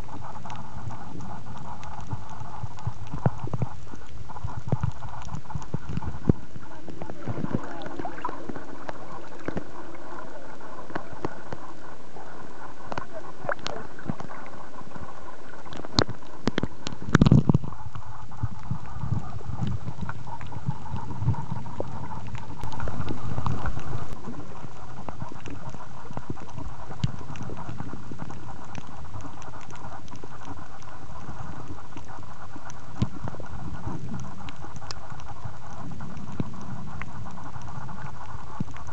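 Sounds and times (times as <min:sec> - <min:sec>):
low underwater rumble: 0:00.0 - 0:38.9
muffled waves sloshing: 0:00.0 - 0:38.9.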